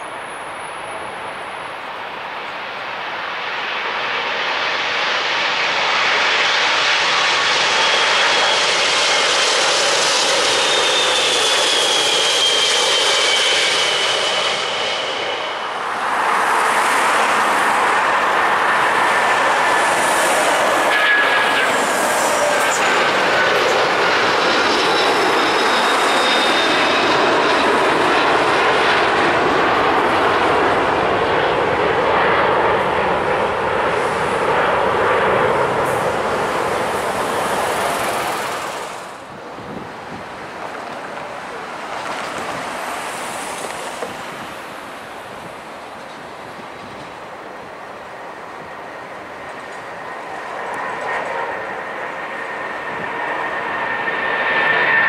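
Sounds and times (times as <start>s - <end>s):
jet airliner roar with whine: 0.0s - 55.0s
jet taking off roar: 0.0s - 55.0s.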